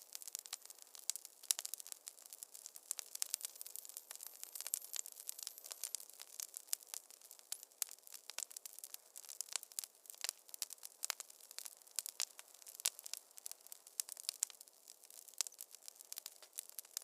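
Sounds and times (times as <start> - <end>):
faint hiss: 0.0 - 17.0
wood fire crackling: 0.0 - 17.0.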